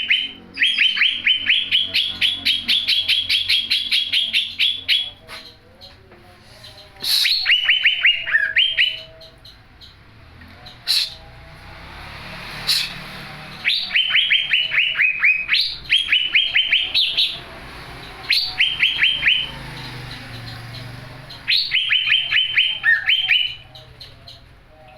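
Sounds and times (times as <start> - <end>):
bird singing rapid whistled notes: 0.0 - 6.0, 6.6 - 10.0, 12.7 - 24.4.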